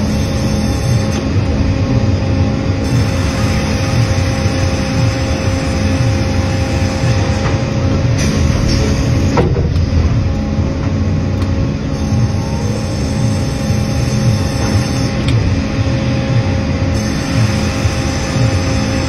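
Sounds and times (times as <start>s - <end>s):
constant machine hum: 0.0s - 19.0s
sawmill machinery running: 0.0s - 19.0s.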